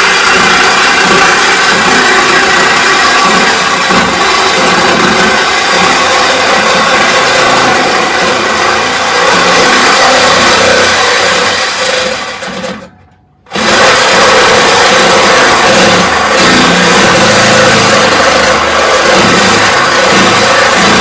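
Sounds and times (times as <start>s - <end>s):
reciprocating saw cutting metal pipe: 0.0s - 21.0s.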